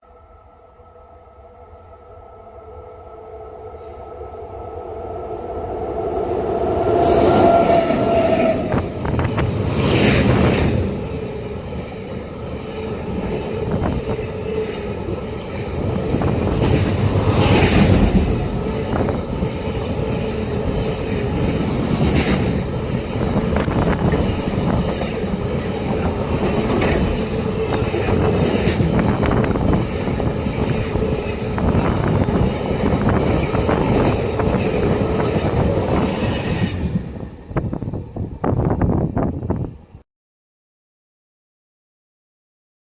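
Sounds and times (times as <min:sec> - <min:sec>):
electric locomotive whine: 0:00.0 - 0:40.0
train wagons rumbling and clattering: 0:03.7 - 0:39.8.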